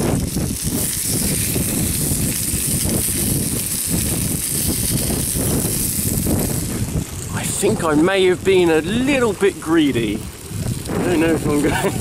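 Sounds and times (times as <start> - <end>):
gas stove hissing: 0.0 - 12.0
wind rumbling on microphone: 0.0 - 12.0.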